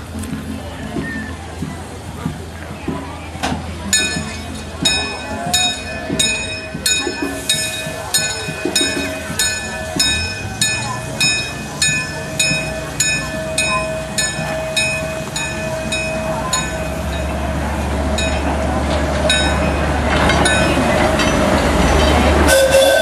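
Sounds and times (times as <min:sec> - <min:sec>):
train rumble: 0:00.0 - 0:23.0
locomotive bell ringing: 0:03.8 - 0:23.0.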